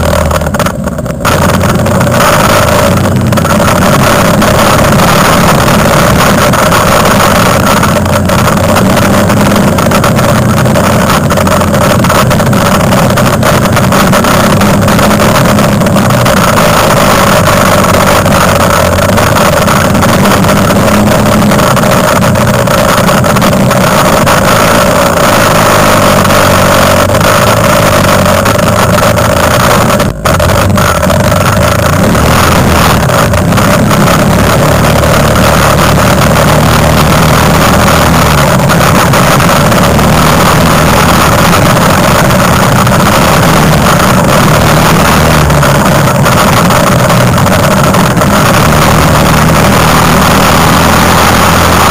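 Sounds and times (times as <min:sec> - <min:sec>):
quad bike engine running: 0:00.0 - 0:51.9.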